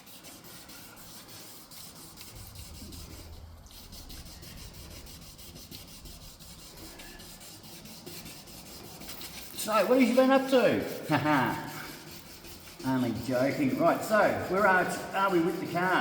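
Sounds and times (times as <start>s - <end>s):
sandpaper rasping on plastic: 0.0s - 16.0s.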